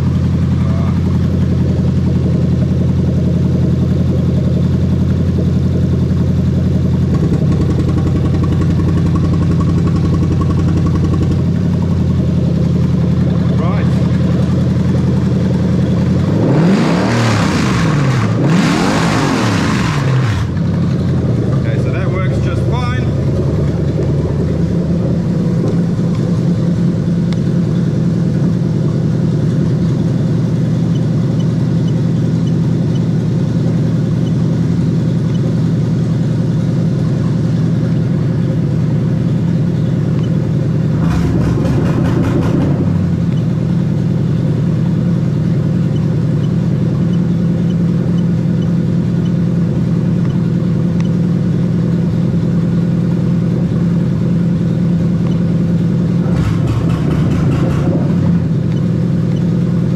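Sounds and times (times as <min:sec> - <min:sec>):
car engine idling: 0:00.0 - 0:19.0, 0:19.6 - 0:59.9.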